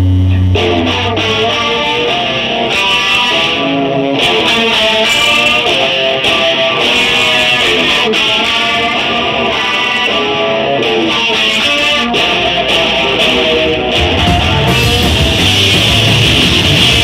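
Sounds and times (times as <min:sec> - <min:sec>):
electric guitars playing riff: 0:00.0 - 0:17.0.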